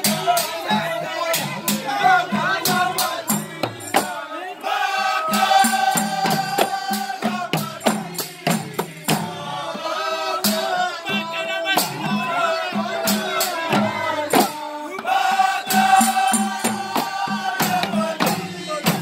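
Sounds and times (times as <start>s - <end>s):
frame drums with jingles: 0.0s - 19.0s
men's chorus chanting in unison: 0.0s - 19.0s.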